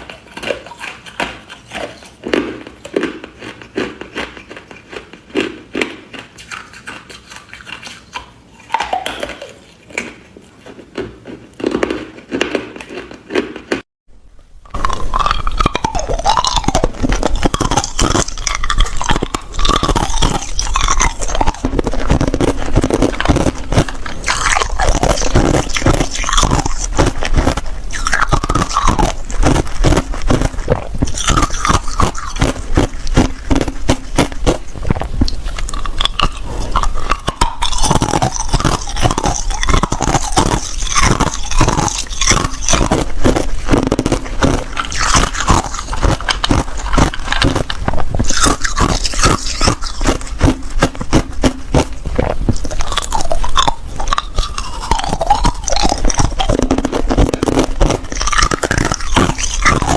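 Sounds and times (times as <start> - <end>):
ice being chewed: 0.0 - 13.8, 14.4 - 59.9.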